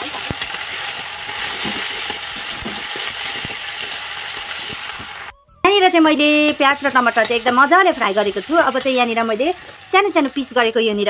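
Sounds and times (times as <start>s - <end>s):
metal spatula scraping pan: 0.0s - 5.3s, 6.4s - 10.4s
onions sizzling in hot oil: 0.0s - 5.3s, 5.9s - 11.0s.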